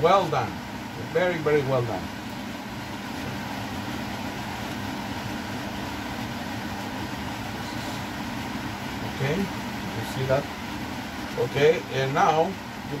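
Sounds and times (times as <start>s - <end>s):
kitchen fan whirring: 0.0s - 13.0s.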